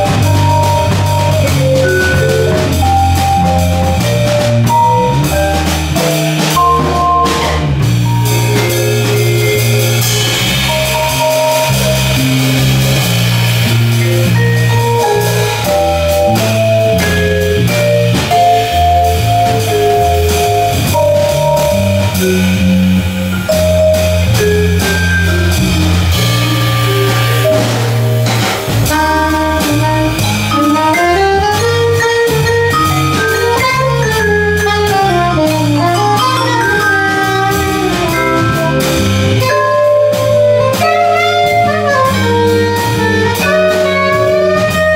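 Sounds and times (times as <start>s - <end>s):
drum kit: 0.0s - 44.9s
electric bass: 0.0s - 44.9s
vibraphone solo: 0.0s - 44.9s.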